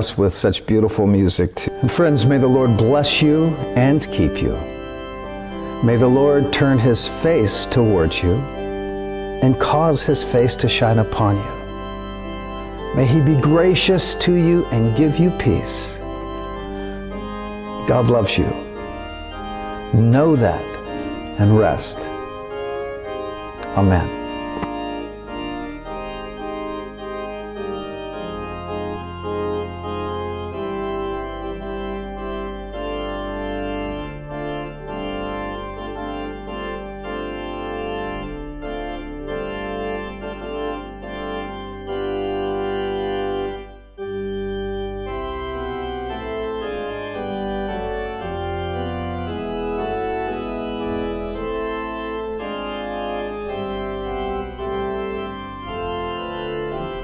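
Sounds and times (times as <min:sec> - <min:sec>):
organ chords: 0:00.0 - 0:57.0.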